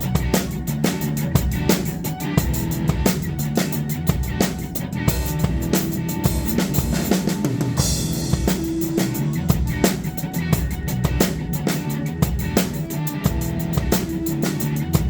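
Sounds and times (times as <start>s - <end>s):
band music: 0.0s - 15.0s
drum kit playing fast beat: 0.0s - 15.0s.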